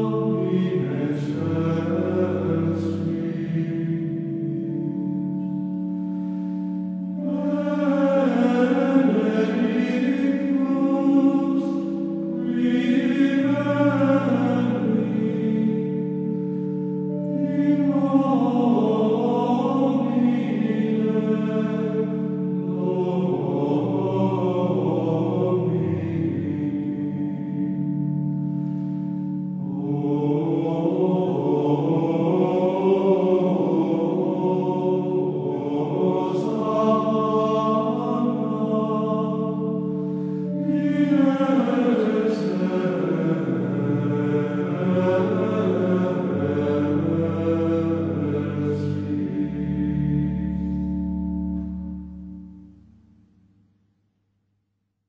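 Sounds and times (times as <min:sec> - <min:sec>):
choir chanting: 0:00.0 - 0:05.6, 0:06.2 - 0:28.0, 0:29.6 - 0:51.0
held low drone notes: 0:00.0 - 0:52.7.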